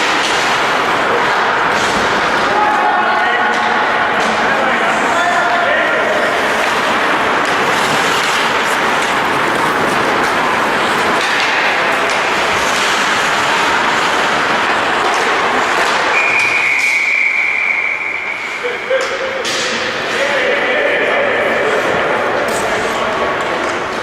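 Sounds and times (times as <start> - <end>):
loud steady rushing noise: 0.0 - 24.0.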